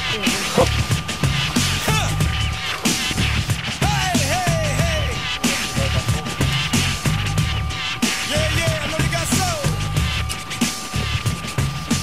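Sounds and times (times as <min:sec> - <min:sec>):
rock music with fast drum beat: 0:00.0 - 0:12.0.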